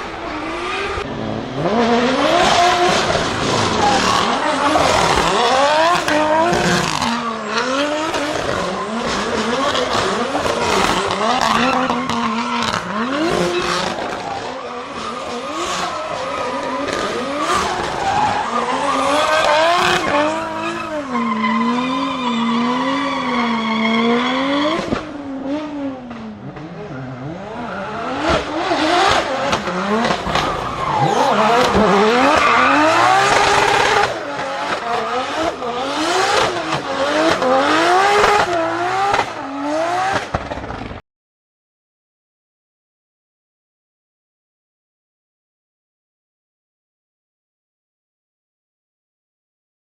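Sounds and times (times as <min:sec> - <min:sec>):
racing car engines revving: 0:00.0 - 0:41.0.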